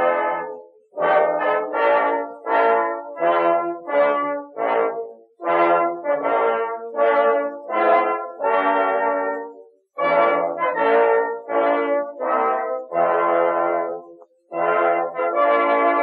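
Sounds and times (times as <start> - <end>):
brass instrument slow melody: 0.0 - 16.0.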